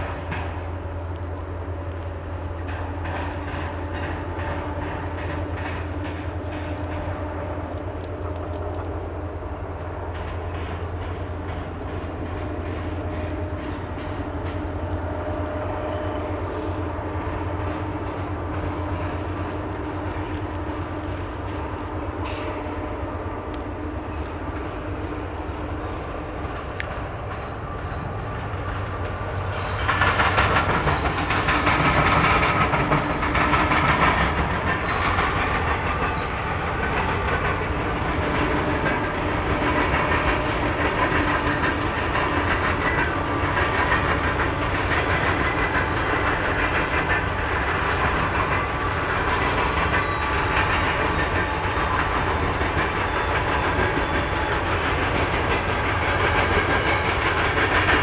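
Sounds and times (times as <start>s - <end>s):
locomotives passing: 0.0s - 58.0s
train on far track: 0.0s - 58.0s.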